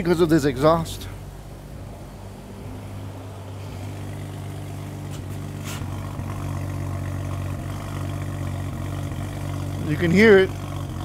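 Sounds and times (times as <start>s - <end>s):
car engine idling with misfire: 0.0s - 11.0s.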